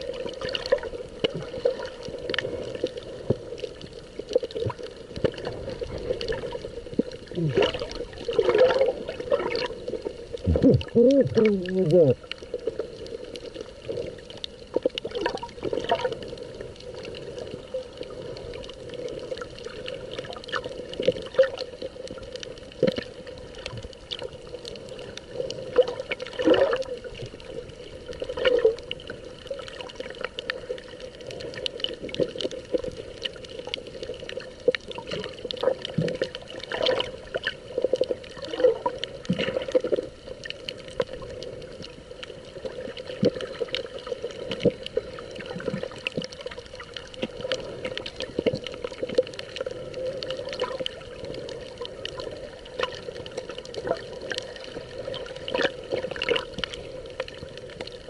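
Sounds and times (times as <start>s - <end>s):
small underwater clicks and knocks: 0.0s - 58.0s
underwater bubbling and sloshing: 0.0s - 58.0s.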